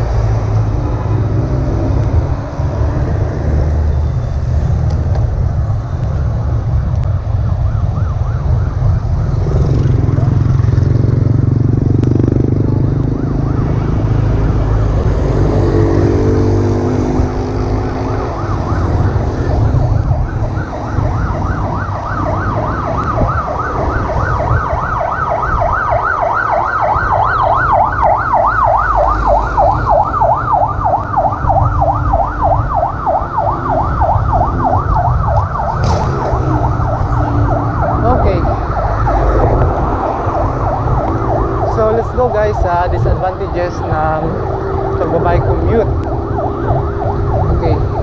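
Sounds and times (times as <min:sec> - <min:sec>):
road traffic rumble: 0:00.0 - 0:48.0
siren yelping: 0:06.5 - 0:48.0.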